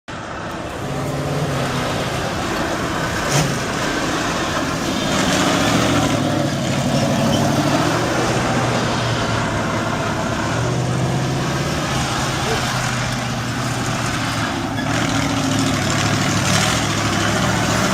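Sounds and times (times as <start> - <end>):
vehicle engine humming: 0.1 - 17.9.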